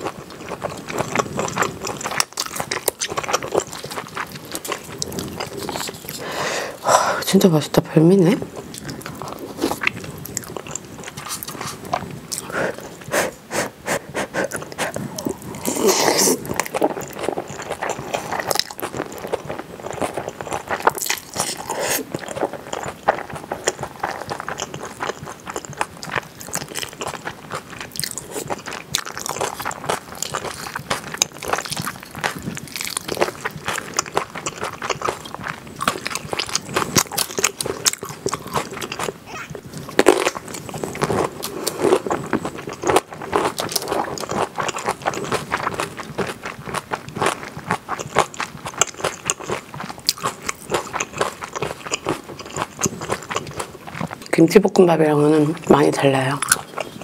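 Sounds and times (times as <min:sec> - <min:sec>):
mouth clicks and bites: 0:00.0 - 0:06.4, 0:08.7 - 0:54.4, 0:55.4 - 0:57.0
noodles slurped and chewed: 0:00.0 - 0:57.0.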